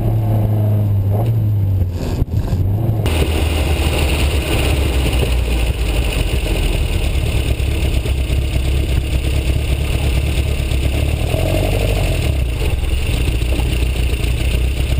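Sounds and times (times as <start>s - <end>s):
car engine running deep note: 2.6s - 14.9s.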